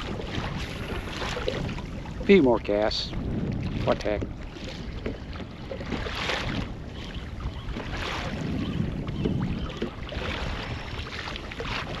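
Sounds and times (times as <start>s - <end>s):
water splashing against kayak hull: 0.0s - 12.0s
wind buffeting microphone: 0.0s - 12.0s.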